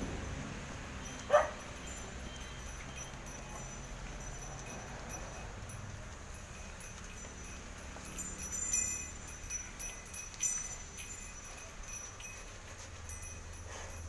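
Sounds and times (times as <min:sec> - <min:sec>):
low steady rumble: 0:00.0 - 0:14.0
small bells jingling: 0:00.0 - 0:14.0.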